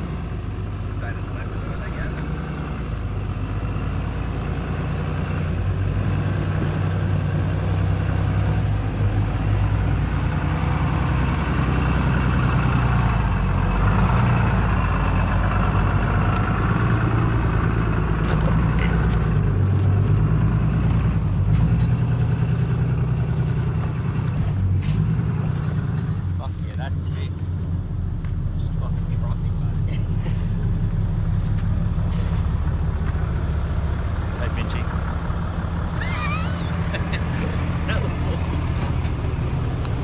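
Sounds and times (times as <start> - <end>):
truck engine at low revs: 0.0 - 40.0.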